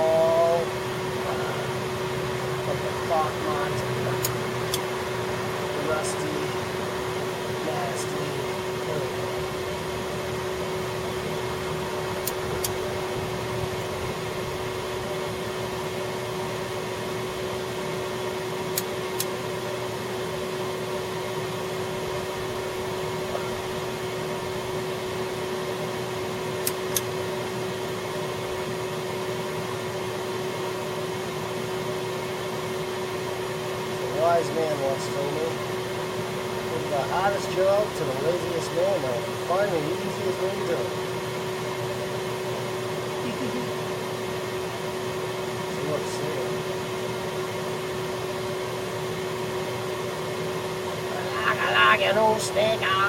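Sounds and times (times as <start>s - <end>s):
vacuum cleaner humming: 0.0s - 53.0s.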